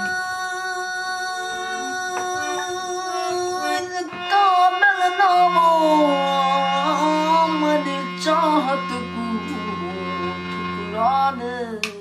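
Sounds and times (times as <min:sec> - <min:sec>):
harmonium droning chord: 0:00.0 - 0:11.8
person singing: 0:00.0 - 0:12.0.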